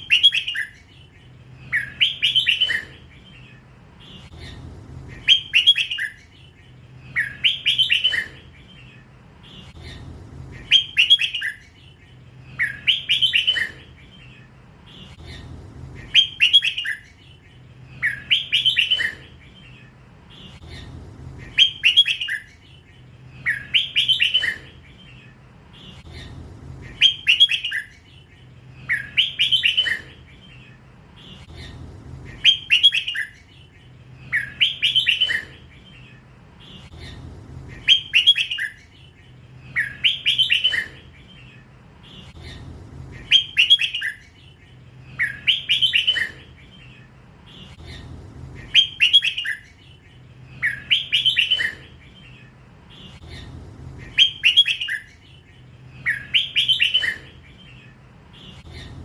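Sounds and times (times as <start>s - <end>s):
bulbul singing: 0.0s - 59.0s.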